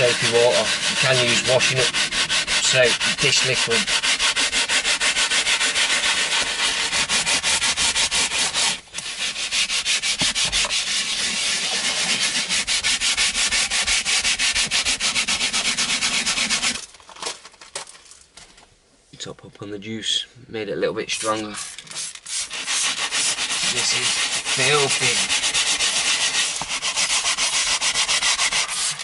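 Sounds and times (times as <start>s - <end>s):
brush scrubbing leather seat: 0.0s - 16.8s, 21.2s - 29.0s.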